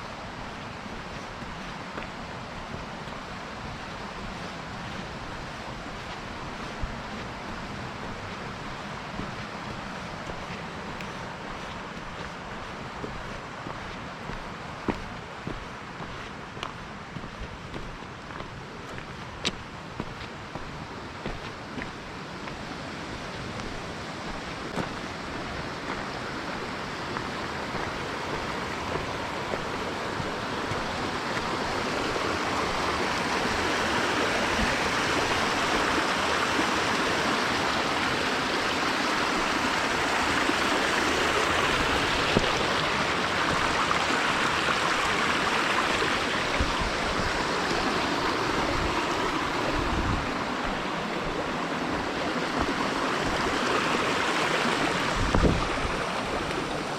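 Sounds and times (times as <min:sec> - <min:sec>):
rushing water: 0:00.0 - 0:56.9.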